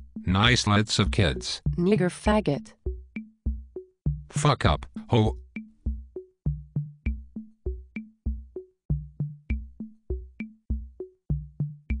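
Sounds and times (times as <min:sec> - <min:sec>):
drum machine beat: 0:00.2 - 0:12.0.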